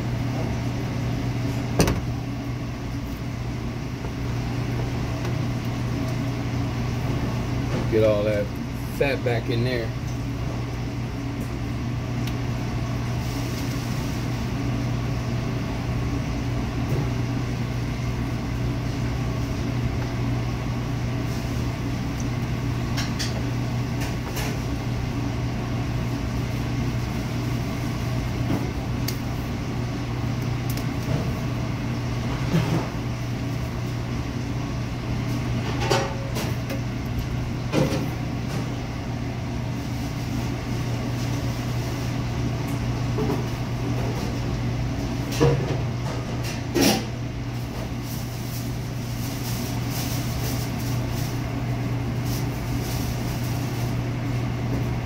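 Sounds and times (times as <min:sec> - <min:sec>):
kitchen equipment hum: 0:00.0 - 0:55.0.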